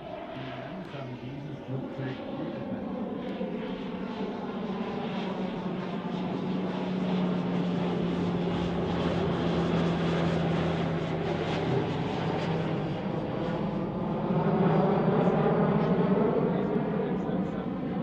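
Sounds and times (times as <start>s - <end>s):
propeller plane engine hum: 0.0s - 18.0s.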